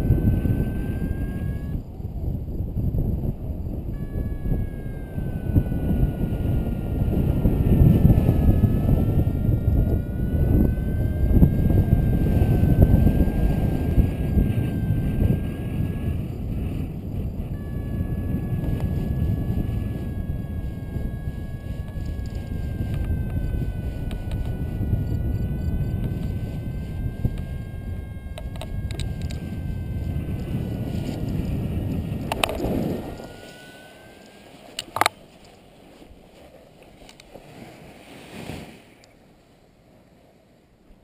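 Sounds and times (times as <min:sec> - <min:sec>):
thin whistling tone: 0:00.0 - 0:02.0, 0:03.6 - 0:35.2
wind rushing over microphone: 0:00.0 - 0:35.2.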